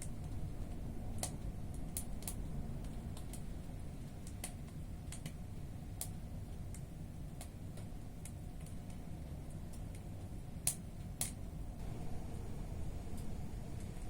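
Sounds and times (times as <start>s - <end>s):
fire crackling and popping: 0.0s - 14.0s
low steady rumble: 0.0s - 14.0s.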